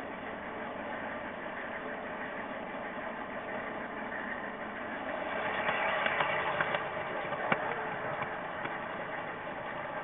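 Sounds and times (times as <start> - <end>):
model train whirring: 0.0 - 10.0.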